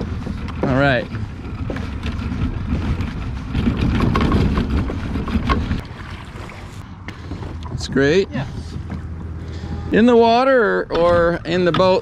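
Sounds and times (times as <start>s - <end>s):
kayak wheels rolling on pavement: 0.0s - 12.0s.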